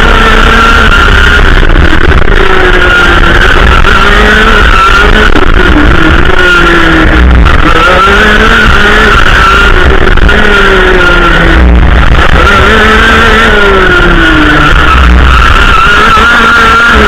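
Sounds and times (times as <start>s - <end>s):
kart engine racing: 0.0s - 17.0s.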